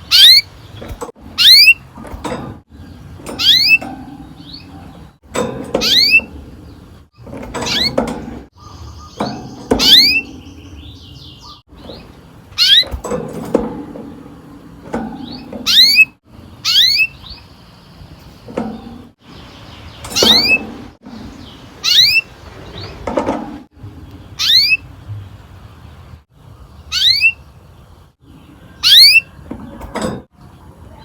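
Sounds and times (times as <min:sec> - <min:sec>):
canary chirping: 0:00.0 - 0:13.6, 0:14.9 - 0:23.0, 0:24.0 - 0:25.1, 0:26.7 - 0:29.8.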